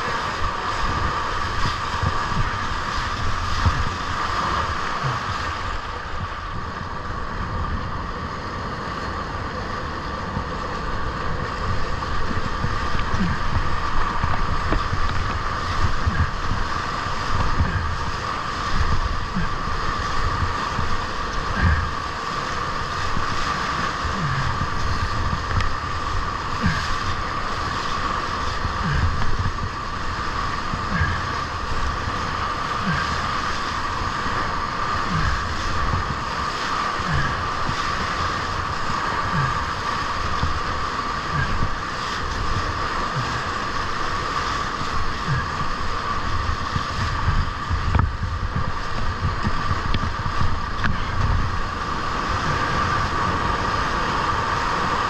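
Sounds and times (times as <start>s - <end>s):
whitewater rushing: 0.0s - 55.0s
wind buffeting microphone: 0.0s - 55.0s.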